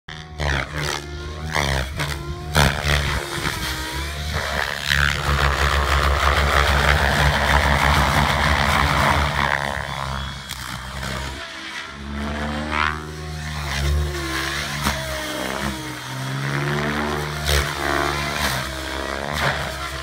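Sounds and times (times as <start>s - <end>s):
rc helicopter motor whine: 0.1s - 20.0s
rotor blades rushing: 0.1s - 20.0s.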